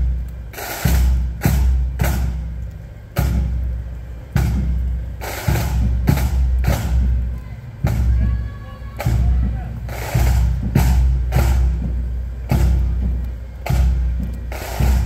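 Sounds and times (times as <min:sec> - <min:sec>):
bass drum and snare beating: 0:00.0 - 0:15.0.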